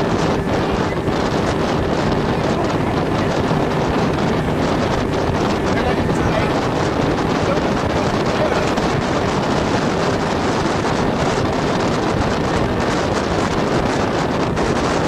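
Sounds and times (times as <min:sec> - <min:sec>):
speedboat running: 0:00.0 - 0:15.0
water rushing past: 0:00.0 - 0:15.0
wind buffeting microphone: 0:00.0 - 0:15.0.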